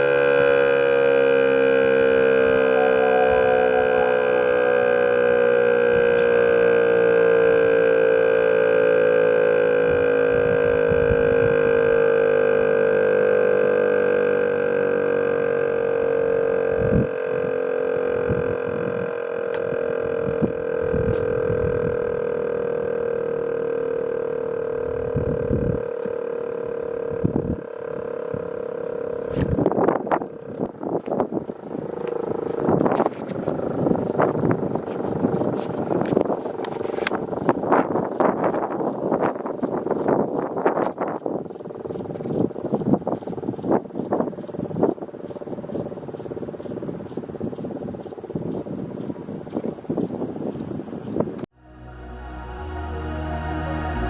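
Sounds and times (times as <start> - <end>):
motor siren steady tone: 0.0 - 54.0.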